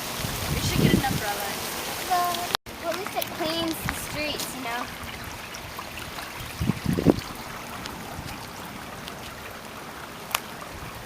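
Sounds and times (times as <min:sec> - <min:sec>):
steady rain: 0:00.0 - 0:11.0
water running along street: 0:00.0 - 0:11.0.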